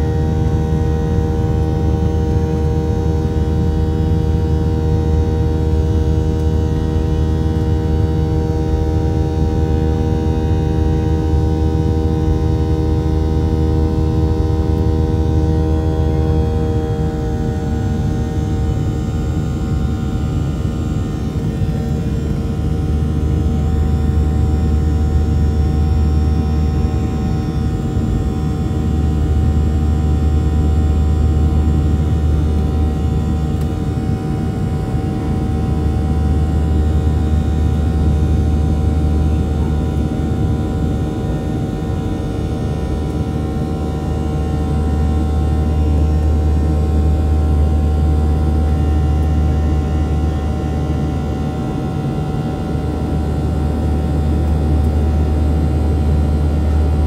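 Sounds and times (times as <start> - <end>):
jet engine cabin drone: 0.0 - 57.0.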